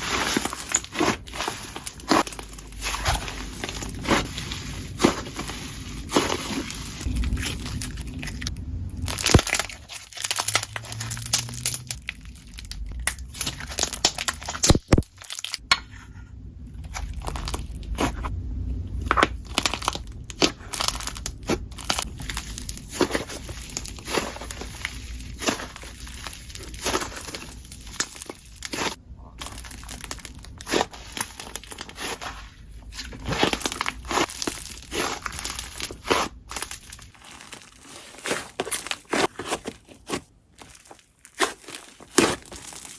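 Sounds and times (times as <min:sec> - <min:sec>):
slime crackling and popping: 0:00.0 - 0:15.6, 0:16.8 - 0:18.3, 0:19.0 - 0:39.3, 0:40.0 - 0:42.9.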